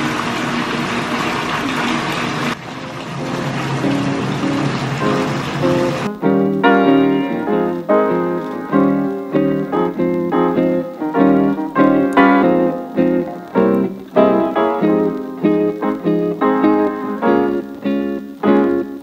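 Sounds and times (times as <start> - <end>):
plucked melody: 2.6 - 19.0.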